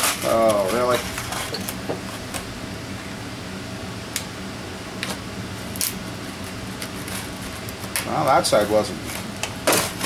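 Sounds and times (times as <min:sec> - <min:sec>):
fan hum: 0:00.0 - 0:10.0.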